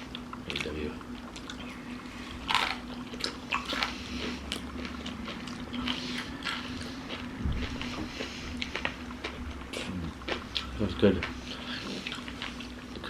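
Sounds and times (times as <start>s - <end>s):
faint steady hum: 0.0s - 13.0s
crunching fried chicken: 0.1s - 13.0s.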